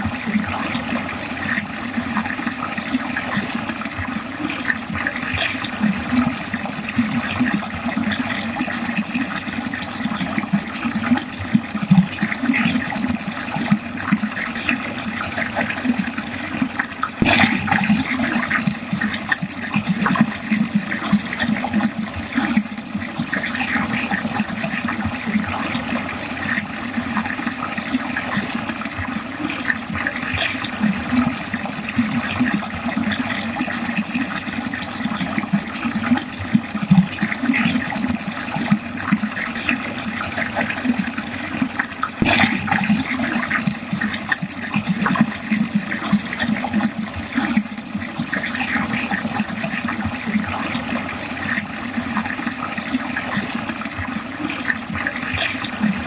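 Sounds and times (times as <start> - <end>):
water flowing down drain: 0.0 - 56.0.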